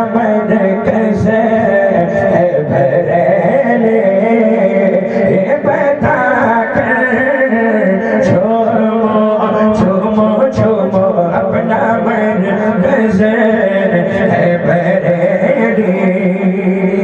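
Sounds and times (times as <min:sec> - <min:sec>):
man singing long wavering notes: 0:00.0 - 0:17.0.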